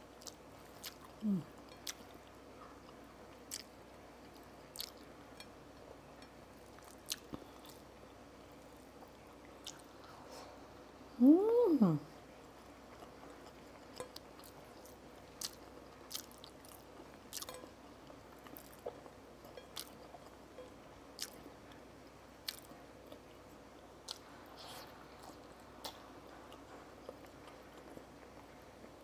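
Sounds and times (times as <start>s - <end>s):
faint chewing: 0.0s - 10.8s, 12.2s - 29.0s.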